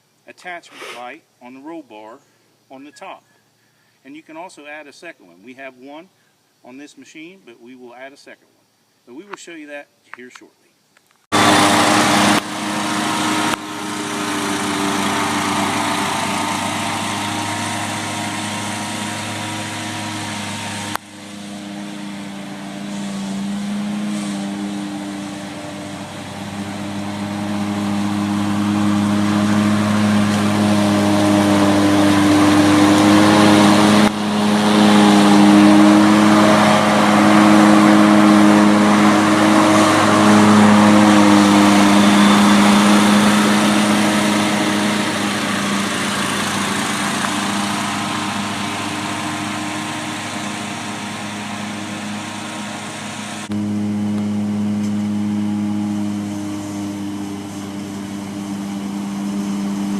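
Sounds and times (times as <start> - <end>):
mower engine running: 11.3 - 59.9.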